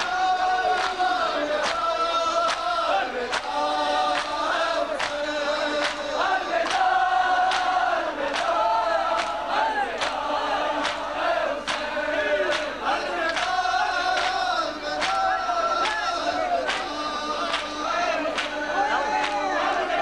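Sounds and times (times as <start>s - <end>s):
male chorus chanting: 0.0s - 20.0s.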